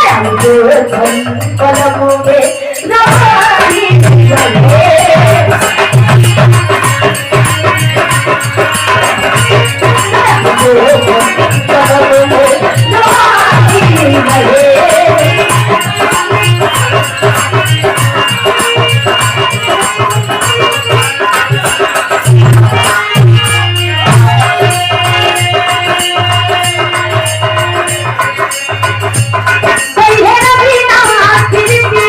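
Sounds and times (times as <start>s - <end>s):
rattling hand percussion: 0.0s - 32.0s.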